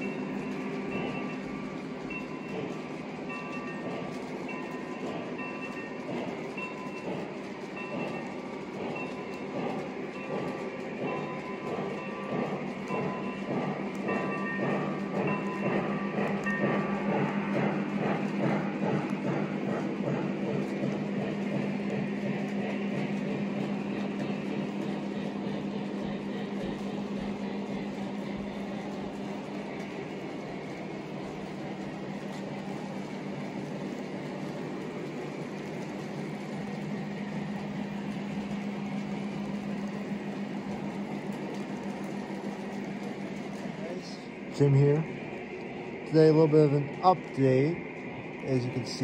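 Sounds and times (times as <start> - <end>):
model train wheels rumbling: 0.0 - 49.0.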